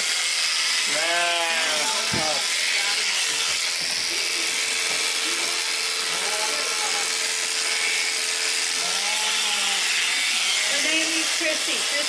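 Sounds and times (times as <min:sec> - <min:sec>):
electric sheep shears buzzing: 0:00.0 - 0:12.0.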